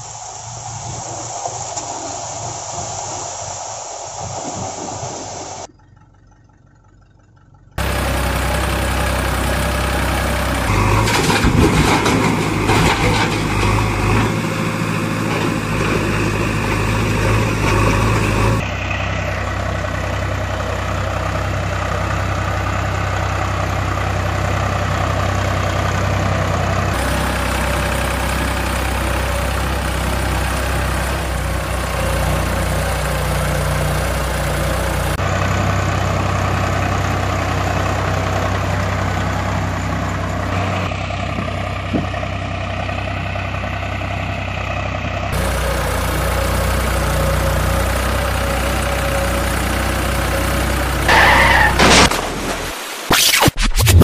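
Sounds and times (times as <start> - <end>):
heavy vehicle engine idling: 5.4 - 51.8.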